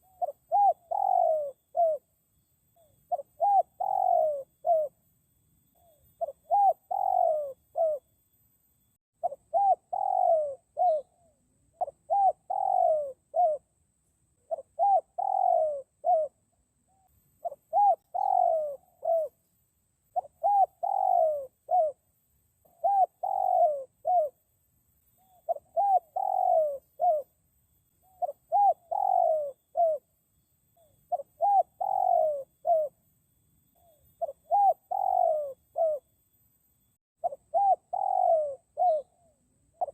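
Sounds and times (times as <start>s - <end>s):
dove cooing: 0.0s - 2.2s, 2.8s - 5.1s, 5.7s - 8.1s, 9.2s - 19.4s, 20.1s - 24.4s, 25.1s - 27.4s, 28.0s - 30.1s, 30.8s - 33.1s, 33.7s - 36.1s, 37.2s - 39.9s.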